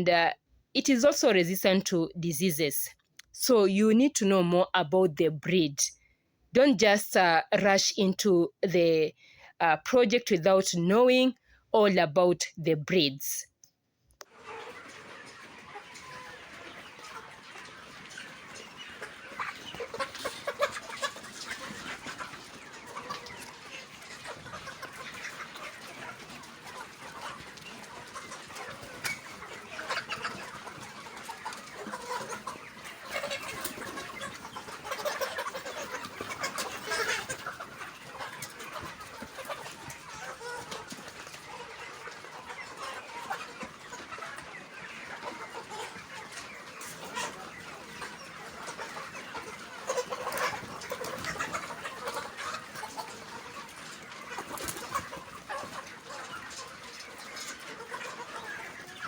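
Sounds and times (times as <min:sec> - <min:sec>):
chickens clucking: 0:00.0 - 0:13.5, 0:14.2 - 0:59.0.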